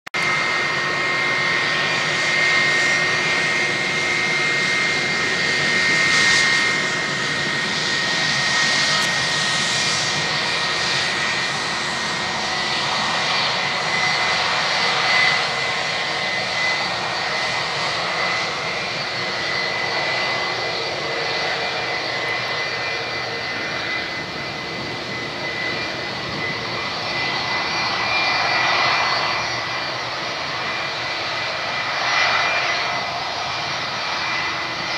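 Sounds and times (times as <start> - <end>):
jet engines whining at taxi: 0.1 - 34.9.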